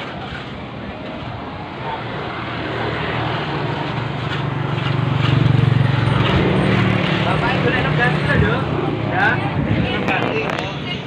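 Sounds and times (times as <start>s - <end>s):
engine humming: 0.0s - 10.7s.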